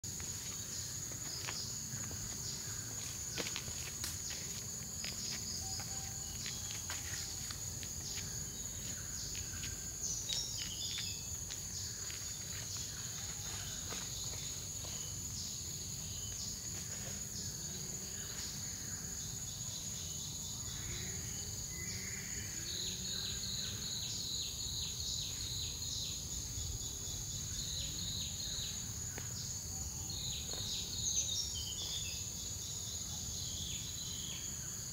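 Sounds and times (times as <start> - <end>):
fast pulsing insect call: 0.0 - 34.9
insect chirps and clicks: 0.1 - 34.9.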